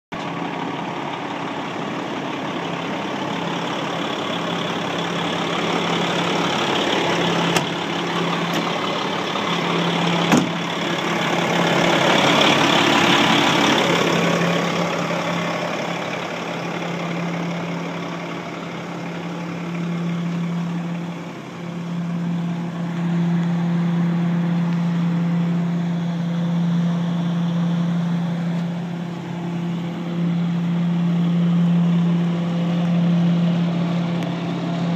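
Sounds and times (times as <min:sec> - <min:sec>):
garbage truck engine idling: 0:00.1 - 0:34.9.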